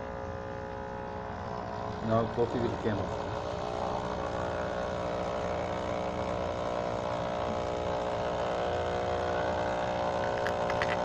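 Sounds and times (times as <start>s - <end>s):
coffee machine pump buzzing: 0.0s - 11.0s.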